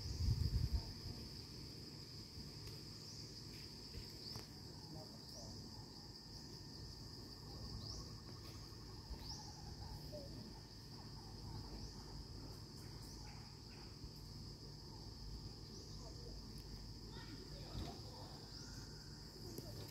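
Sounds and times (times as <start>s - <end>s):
insects droning: 0.0s - 19.9s.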